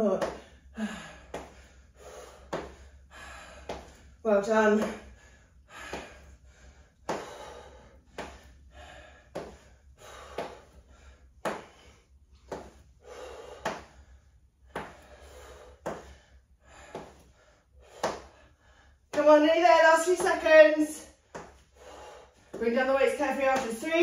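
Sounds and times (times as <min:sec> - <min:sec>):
person breathing hard: 0:00.2 - 0:04.2, 0:04.9 - 0:19.2, 0:21.1 - 0:22.6.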